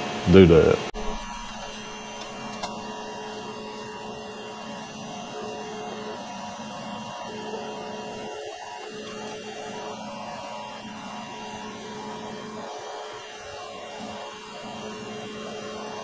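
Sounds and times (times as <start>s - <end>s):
machine hum and whir: 0.0s - 16.0s.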